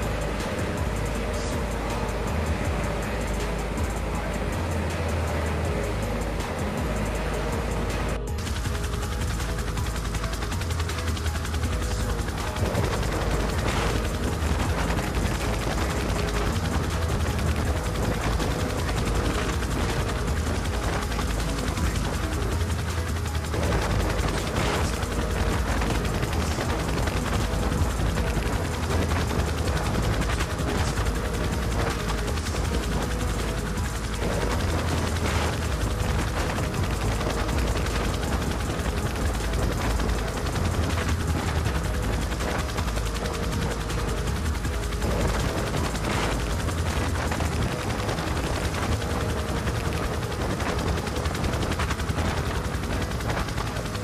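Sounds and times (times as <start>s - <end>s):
helicopter rotor thudding: 0.0s - 54.0s.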